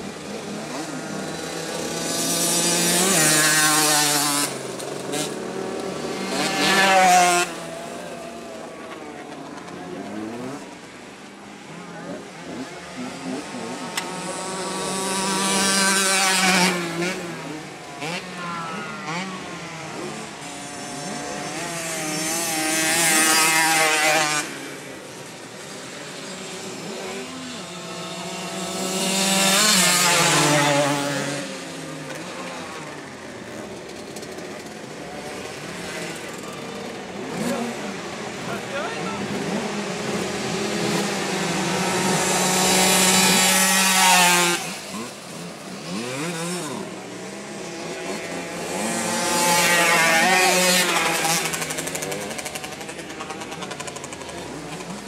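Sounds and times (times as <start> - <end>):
distant motorbike engines: 0.0 - 55.0
motocross bikes passing by: 0.0 - 55.0.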